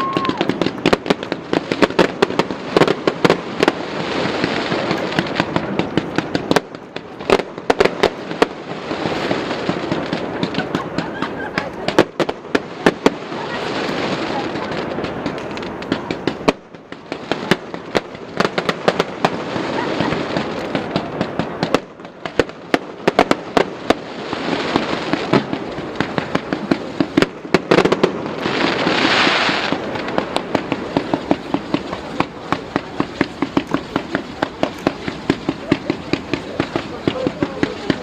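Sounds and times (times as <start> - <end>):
fireworks cracking: 0.0 - 38.0
rushing hiss of fireworks: 0.0 - 38.0.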